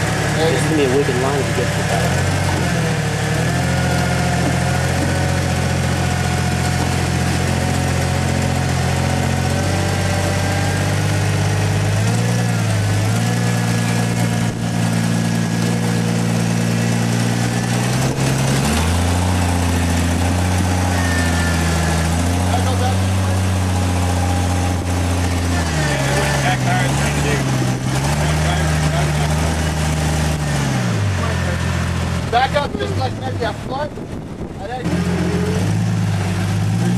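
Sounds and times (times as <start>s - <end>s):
engine idling at low revs: 0.0s - 36.9s.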